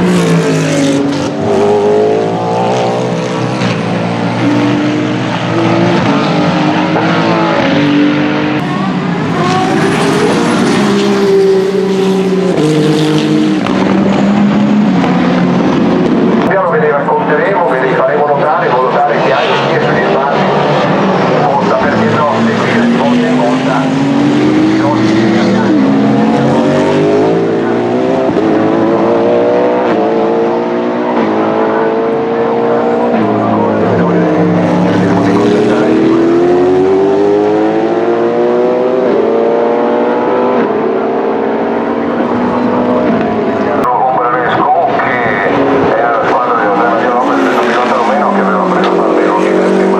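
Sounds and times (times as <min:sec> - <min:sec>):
racing car engines changing gear: 0:00.0 - 0:49.9.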